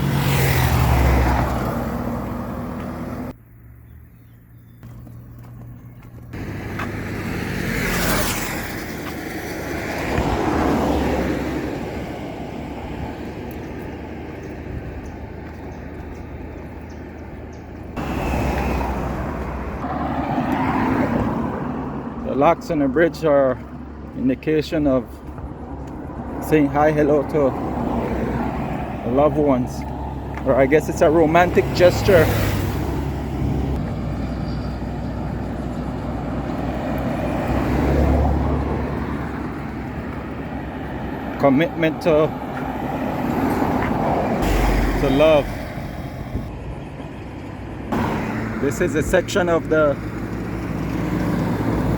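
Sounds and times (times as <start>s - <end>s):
vehicle passing close: 0.0s - 3.4s, 5.0s - 51.9s
road traffic rumble: 0.0s - 51.9s.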